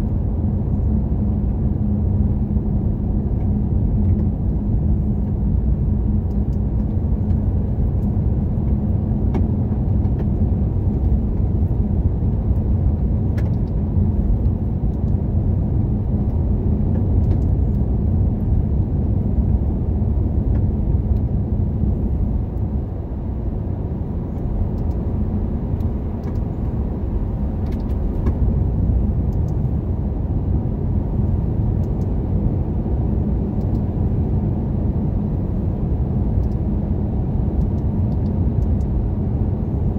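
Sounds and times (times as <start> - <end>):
car driving on highway: 0.0 - 39.9.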